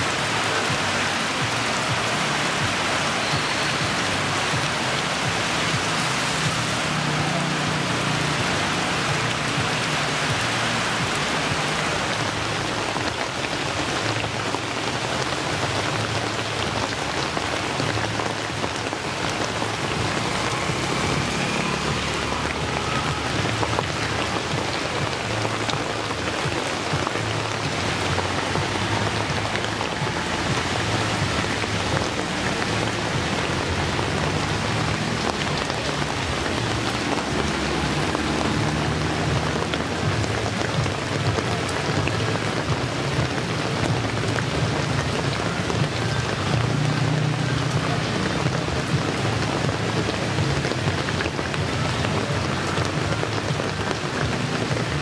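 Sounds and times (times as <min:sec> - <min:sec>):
heavy rain on wet street: 0:00.0 - 0:55.0.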